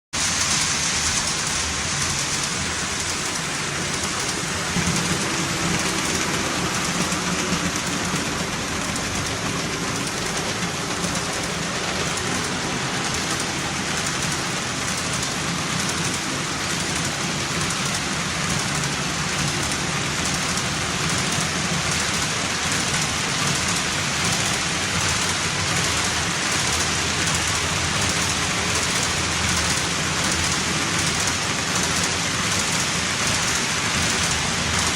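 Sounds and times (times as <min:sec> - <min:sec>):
model train wheels rattling: 0:00.2 - 0:34.9.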